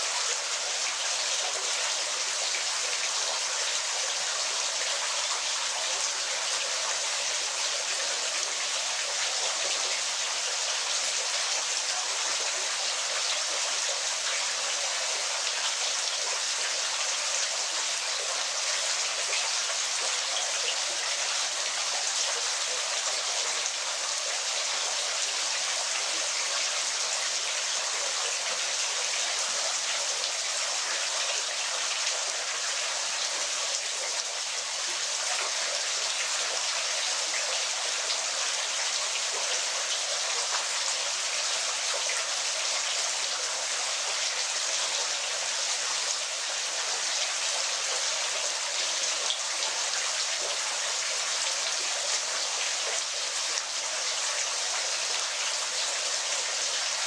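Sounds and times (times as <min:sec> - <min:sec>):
waterfall hiss: 0:00.0 - 0:57.0.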